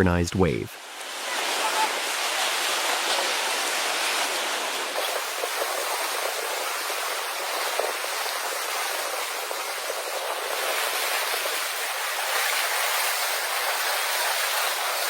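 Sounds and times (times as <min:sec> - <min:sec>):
rushing splashing water: 0:00.7 - 0:15.0.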